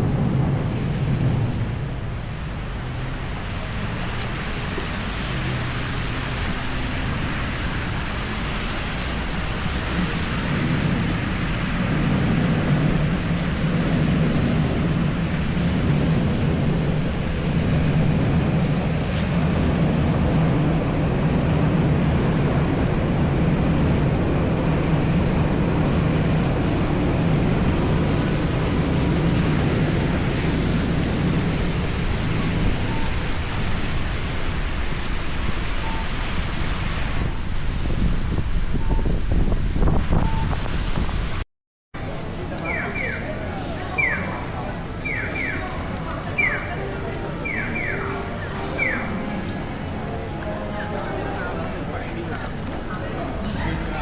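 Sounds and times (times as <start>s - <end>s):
heavy rain on street: 0.0s - 41.4s, 42.0s - 54.0s
traffic hum: 0.0s - 41.4s, 42.0s - 54.0s.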